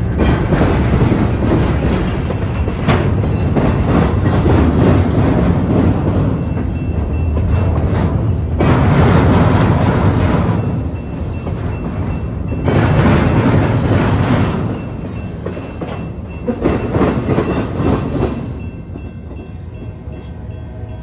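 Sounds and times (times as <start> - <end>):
train wheels clattering over rails: 0.0 - 20.4.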